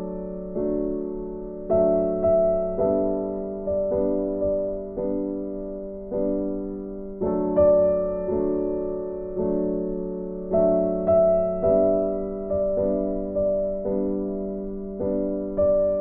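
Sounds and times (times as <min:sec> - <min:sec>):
slow gentle piano chords: 0:00.0 - 0:16.0.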